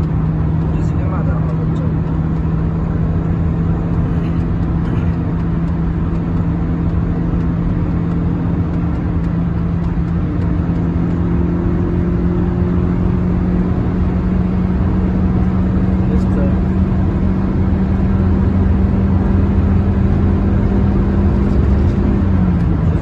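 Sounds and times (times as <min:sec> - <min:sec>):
car engine droning: 0:00.0 - 0:23.0
road and wind rush: 0:00.0 - 0:23.0.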